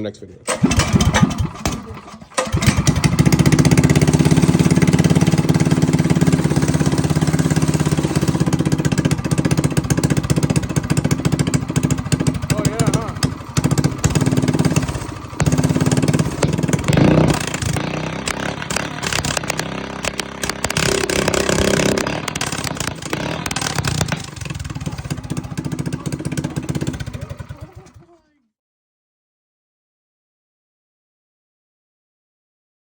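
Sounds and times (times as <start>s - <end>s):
small engine running: 0.5s - 28.3s.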